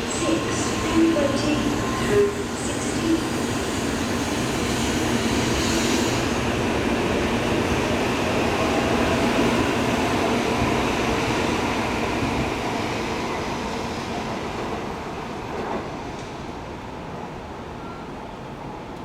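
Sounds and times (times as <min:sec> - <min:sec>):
train running past platform: 0:00.0 - 0:19.0.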